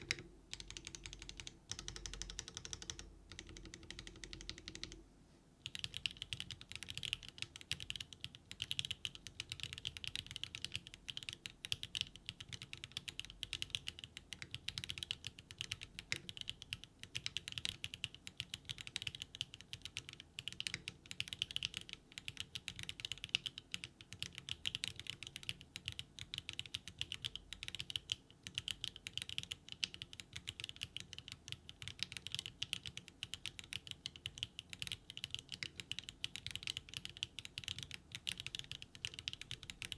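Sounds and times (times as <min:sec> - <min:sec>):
fast mechanical keyboard typing: 0:00.0 - 0:05.0, 0:05.6 - 0:39.9.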